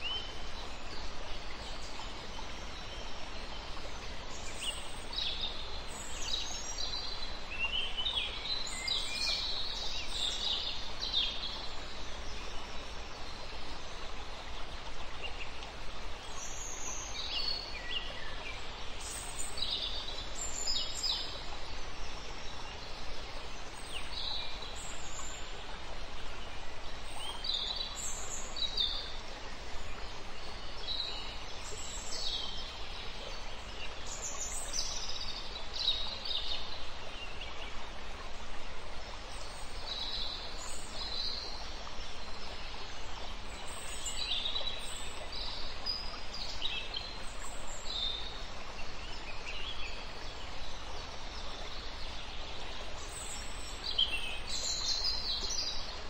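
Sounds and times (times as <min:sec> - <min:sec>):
outdoor ambience hiss: 0:00.0 - 0:56.0.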